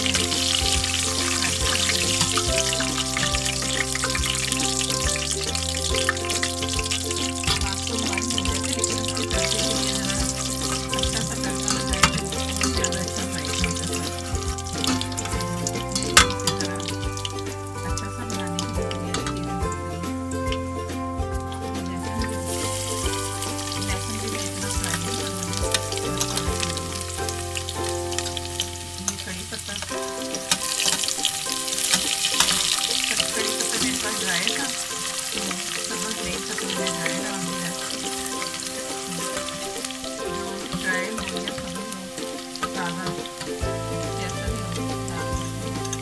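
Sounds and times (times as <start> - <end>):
garlic sizzling in hot oil: 0.0 - 19.7, 21.7 - 46.0.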